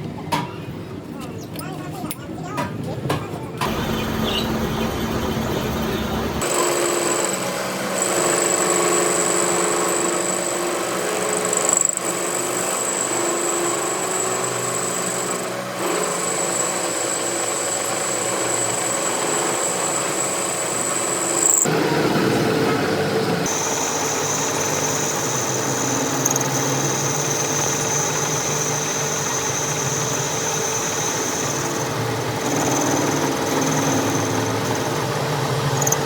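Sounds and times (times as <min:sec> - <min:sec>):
power tool high whine: 0:03.6 - 0:36.0.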